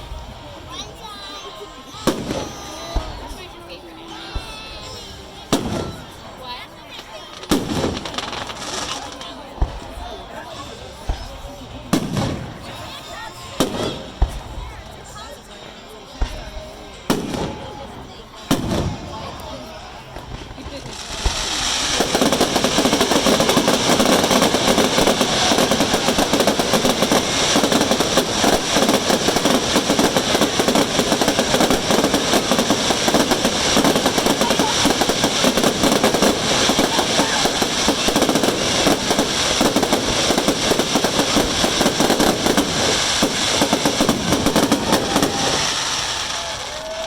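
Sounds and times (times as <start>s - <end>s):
fireworks crackling barrage: 0.0s - 47.0s.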